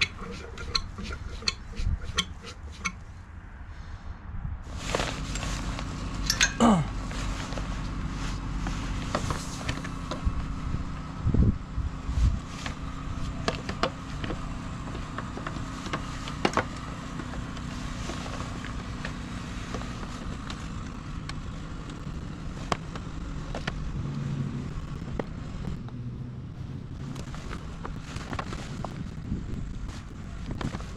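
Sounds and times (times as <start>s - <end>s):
scooter engine running: 0.0s - 3.0s, 4.7s - 30.9s.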